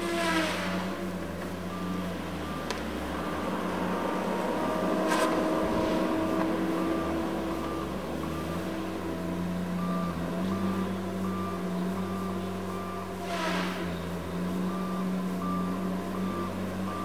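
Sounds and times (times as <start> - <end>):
diesel engine running: 0.0 - 17.0
travel alarm beeping: 1.0 - 17.0.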